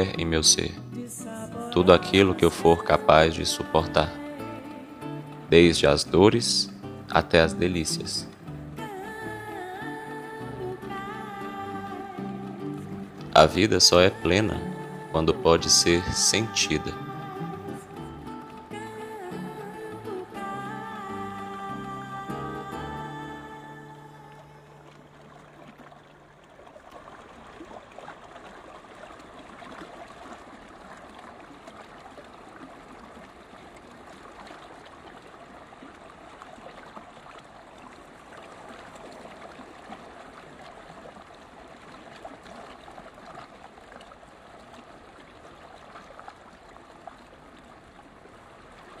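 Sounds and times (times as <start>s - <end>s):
creek water running: 0.0s - 49.0s.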